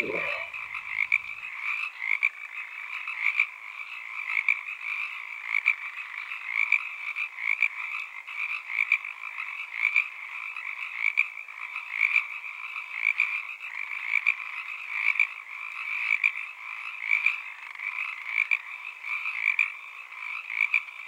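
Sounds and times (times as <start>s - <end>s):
chorus of frogs calling: 0.0s - 21.0s.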